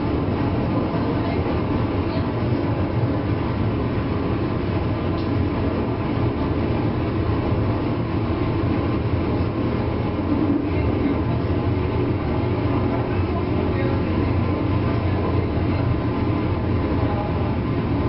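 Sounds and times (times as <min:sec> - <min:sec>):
electrical hum: 0:00.0 - 0:18.0
train wheels and motors rumbling: 0:00.0 - 0:18.0.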